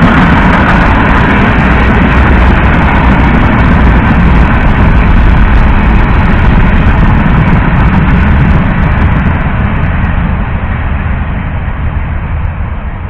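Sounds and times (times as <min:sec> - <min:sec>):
freight train wheels rumbling on track: 0:00.0 - 0:13.0.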